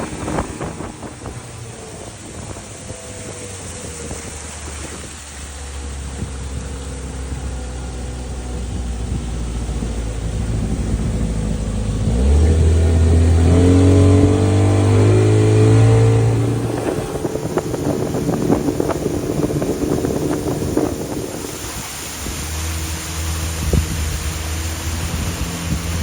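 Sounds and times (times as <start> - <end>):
wind rushing: 0.0 - 6.8, 8.6 - 26.0
boat engine running: 0.0 - 26.0
water splashing against boat: 0.0 - 26.0.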